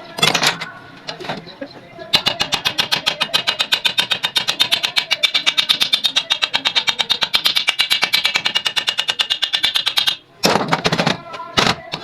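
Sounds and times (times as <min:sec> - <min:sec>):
sewing machine clicking: 0:02.1 - 0:12.0.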